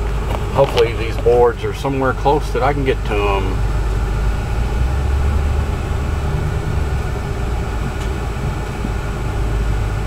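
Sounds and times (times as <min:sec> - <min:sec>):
vehicle rumbling: 0:00.0 - 0:10.0.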